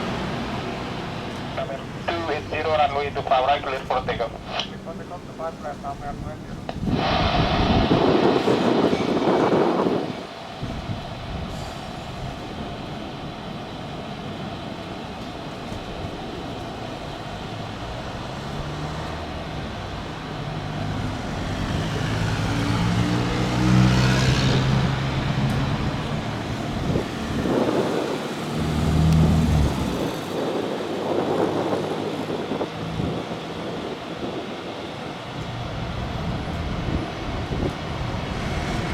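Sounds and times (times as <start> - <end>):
jet airliner taking off: 0.0 - 38.9.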